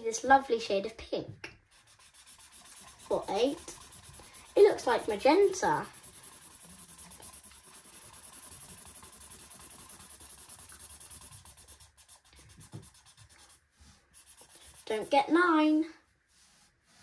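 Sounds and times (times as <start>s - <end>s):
felt-tip pen scribbling on paper: 1.7s - 15.4s.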